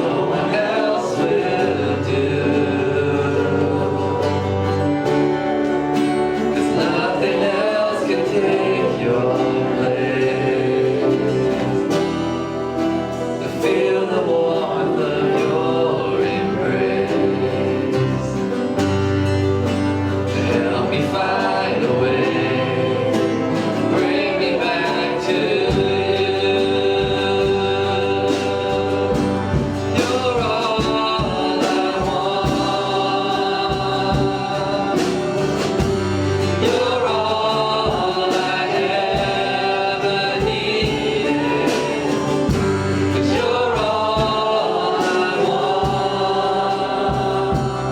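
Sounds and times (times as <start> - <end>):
band with guitar: 0.0 - 47.9
person singing: 0.0 - 47.9.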